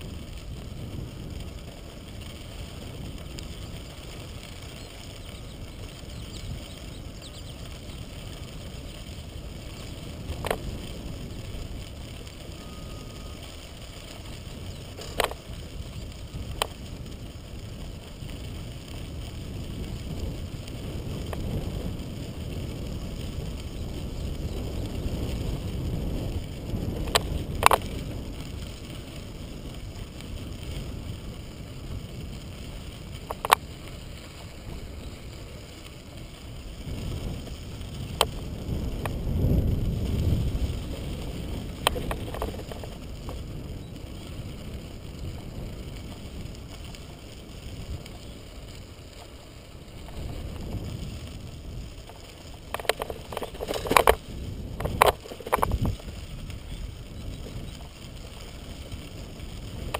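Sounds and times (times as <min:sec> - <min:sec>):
bicycle tyres rolling on gravel: 0:00.0 - 0:59.9
wind on microphone: 0:00.0 - 0:59.9.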